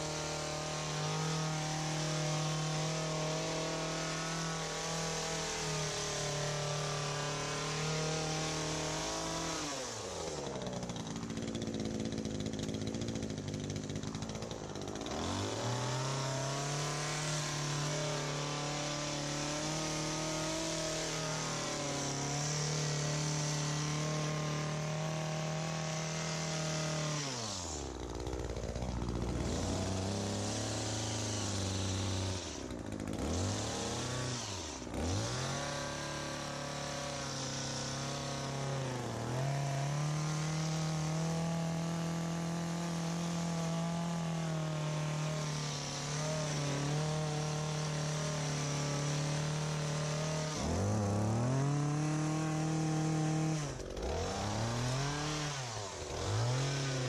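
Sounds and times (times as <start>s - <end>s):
hedge trimmer engine revving: 0.0s - 57.0s.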